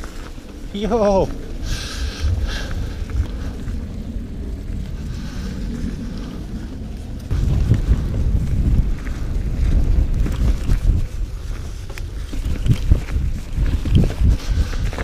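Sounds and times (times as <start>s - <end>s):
low rumble of bike tyres: 0.0s - 15.0s
wind buffeting microphone: 0.0s - 15.0s.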